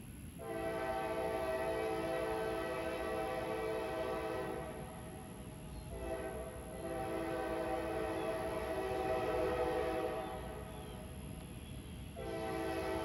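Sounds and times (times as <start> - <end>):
locomotive air horn: 0.4 - 11.1, 12.2 - 13.0.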